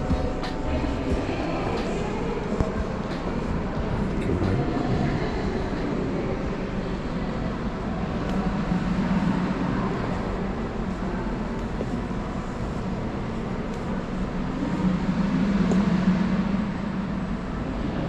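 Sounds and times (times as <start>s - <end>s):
low hum: 0.0s - 18.0s
low mechanical rumble: 0.0s - 18.0s.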